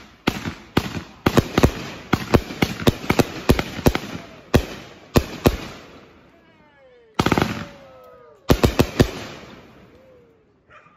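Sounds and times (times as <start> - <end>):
firework bangs: 0.0 - 6.1, 7.2 - 9.9
crackling firework reports: 0.0 - 6.5, 7.1 - 10.3.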